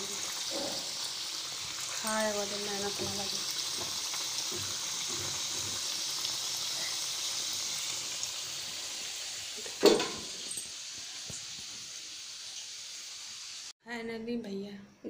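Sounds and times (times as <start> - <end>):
food sizzling in hot oil: 0.0 - 13.8.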